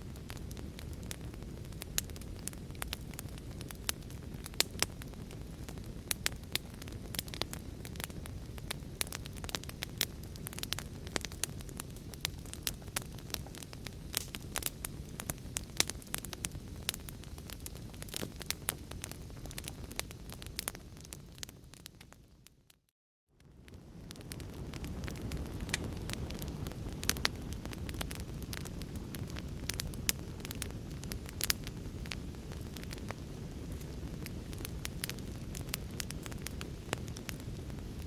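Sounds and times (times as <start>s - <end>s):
low rush of burning: 0.0s - 22.0s, 23.4s - 38.0s
wood fire crackling: 0.0s - 38.0s.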